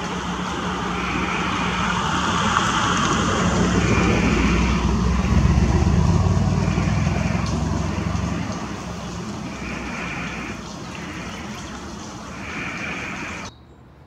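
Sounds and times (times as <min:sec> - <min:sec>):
vehicle passing rumble: 0:00.0 - 0:13.5.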